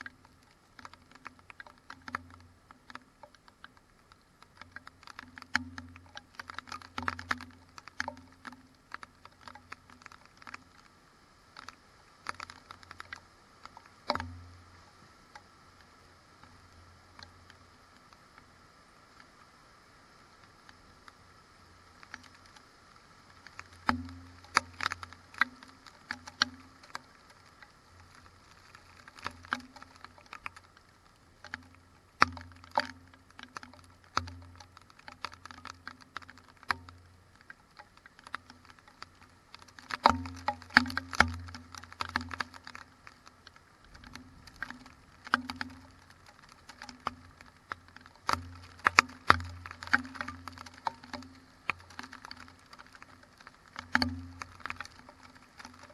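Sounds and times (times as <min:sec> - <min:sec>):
raindrops tapping on camera: 0:00.0 - 0:55.9.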